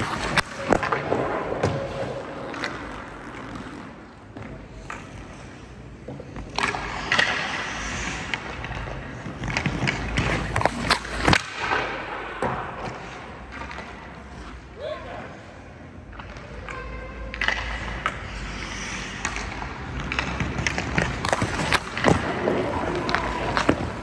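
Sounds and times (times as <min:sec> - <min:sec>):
stick and puck clacks: 0:00.0 - 0:14.6, 0:15.9 - 0:24.0
skate blades scraping ice: 0:00.0 - 0:24.0.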